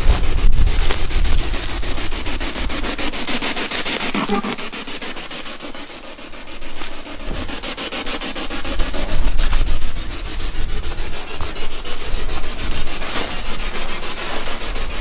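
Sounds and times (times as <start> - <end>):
weeds rustling against clothing: 0.0 - 7.5, 8.1 - 15.0
microphone rubbing noise: 0.0 - 15.0.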